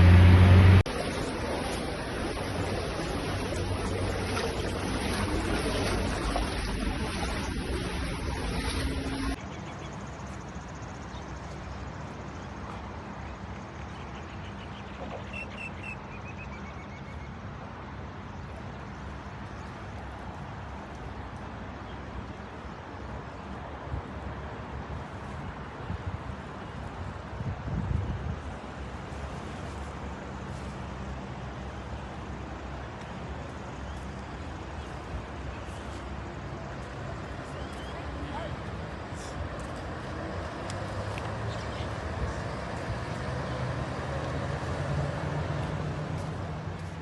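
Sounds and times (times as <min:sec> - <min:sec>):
outdoor traffic noise: 0:00.0 - 0:47.0.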